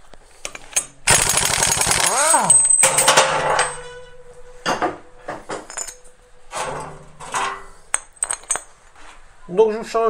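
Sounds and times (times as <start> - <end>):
metal parts clinking: 0.4 - 8.8.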